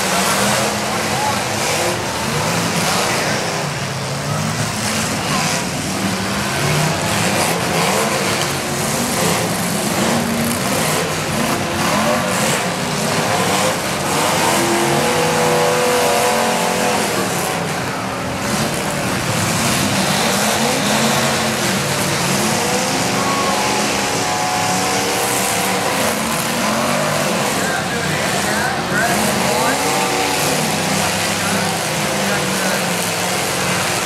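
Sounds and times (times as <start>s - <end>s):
car engines revving hard: 0.0s - 34.0s.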